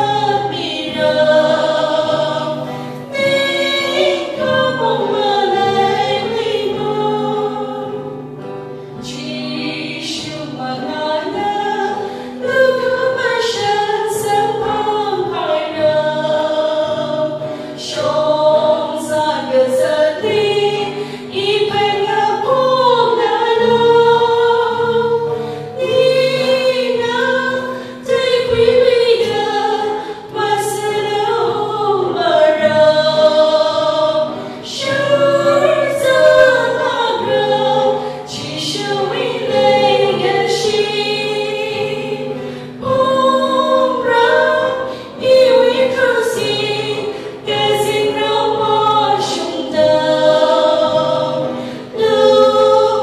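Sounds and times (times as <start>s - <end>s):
acoustic guitar: 0.0s - 53.0s
women singing gospel song: 0.0s - 53.0s.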